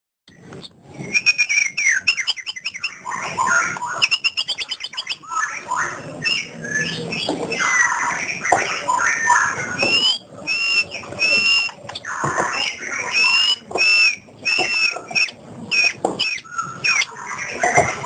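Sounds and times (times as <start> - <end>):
songbird singing: 0.3 - 18.0.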